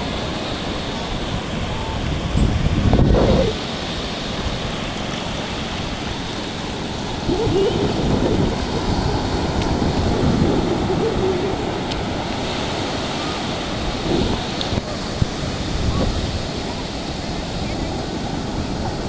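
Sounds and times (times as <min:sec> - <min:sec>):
sea surf on sandy beach: 0:00.0 - 0:19.0
wind on microphone: 0:00.0 - 0:19.0.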